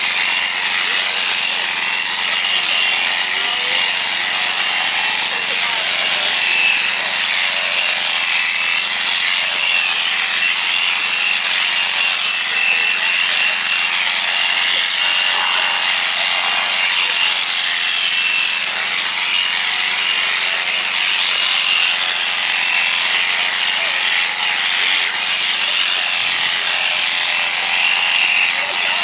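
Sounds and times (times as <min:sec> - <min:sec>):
electric shears buzzing: 0:00.0 - 0:29.0.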